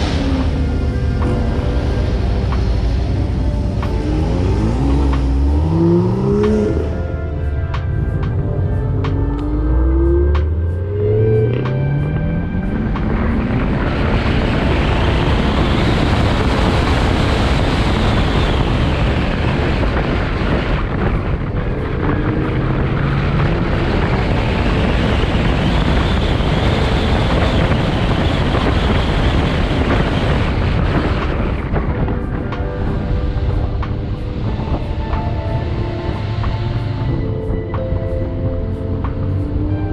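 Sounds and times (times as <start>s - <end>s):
faint car engine: 0.0s - 39.9s
heavy wind on microphone: 0.0s - 39.9s.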